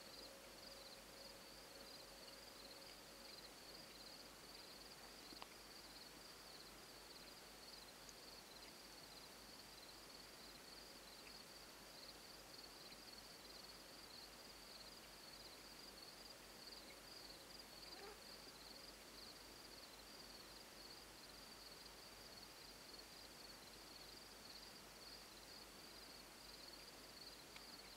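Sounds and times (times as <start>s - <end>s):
faint outdoor hiss: 0.0s - 27.9s
insect trill: 0.0s - 27.9s.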